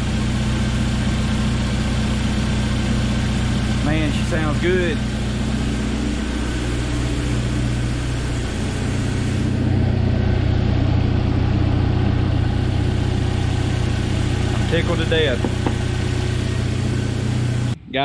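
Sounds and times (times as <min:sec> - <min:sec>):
car engine idling: 0:00.0 - 0:17.8.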